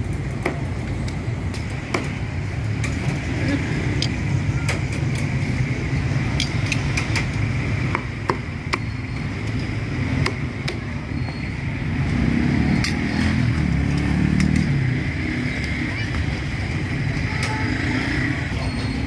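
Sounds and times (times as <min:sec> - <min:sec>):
street traffic rumbling: 0:00.0 - 0:19.0.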